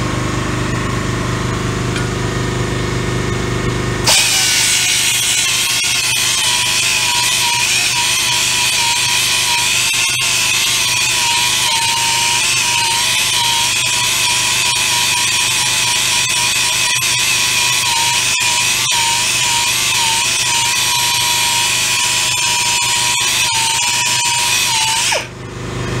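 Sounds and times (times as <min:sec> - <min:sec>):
belt sander grinding metal: 0:04.0 - 0:25.4.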